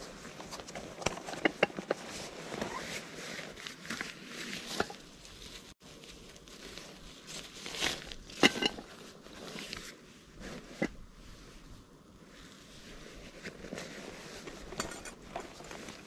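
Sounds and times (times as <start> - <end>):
fabric sack rustling: 0.0 - 16.0.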